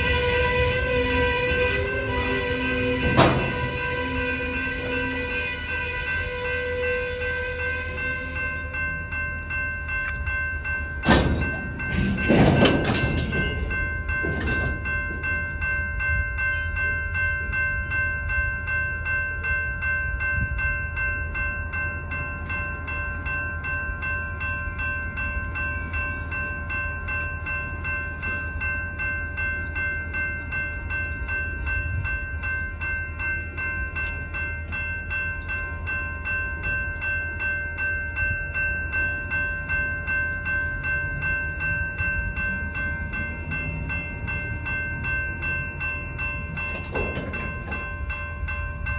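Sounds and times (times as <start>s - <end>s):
freight cars rumbling: 0.0s - 48.9s
railroad crossing bell ringing: 0.0s - 48.9s.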